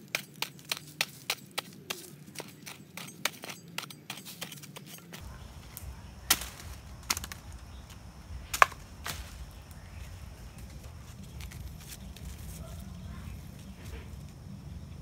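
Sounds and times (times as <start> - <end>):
hoe chopping into hard soil: 0.0 - 12.4
knocks and scrapes in soil: 0.0 - 15.0.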